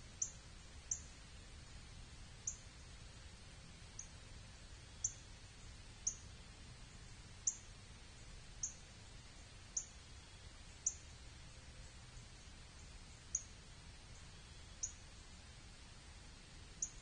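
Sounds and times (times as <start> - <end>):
faint low background noise: 0.0 - 17.0.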